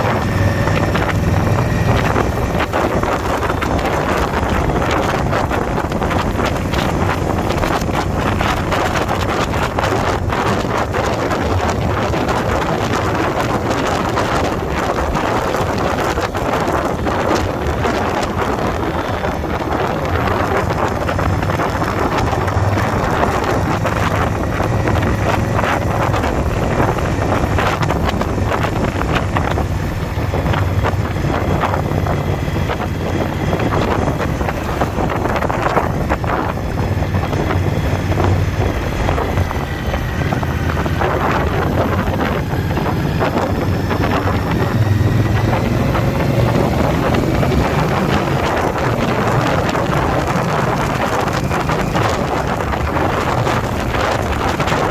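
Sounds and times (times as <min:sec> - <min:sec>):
motorcycle engine running: 0:00.0 - 0:54.9
wind buffeting on microphone: 0:00.0 - 0:54.9.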